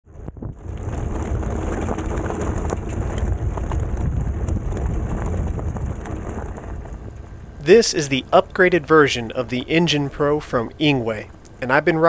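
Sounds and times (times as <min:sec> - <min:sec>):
wind rumble on microphone: 0:00.0 - 0:12.0
tires crunching on gravel: 0:00.1 - 0:12.0.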